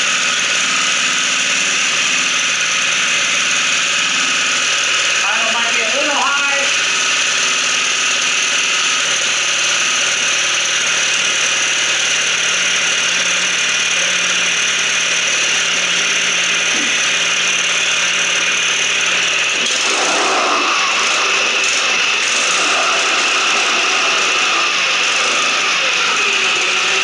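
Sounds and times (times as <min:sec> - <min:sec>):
mini bike engine idling: 0:00.0 - 0:27.0.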